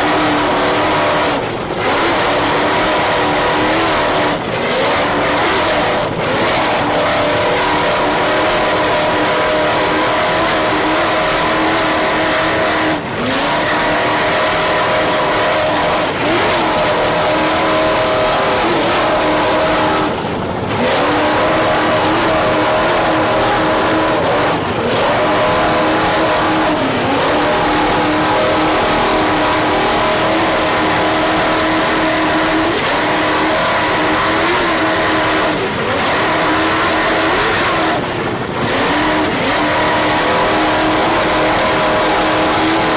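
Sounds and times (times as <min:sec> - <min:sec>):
powerboat engines running hard: 0:00.0 - 0:42.9.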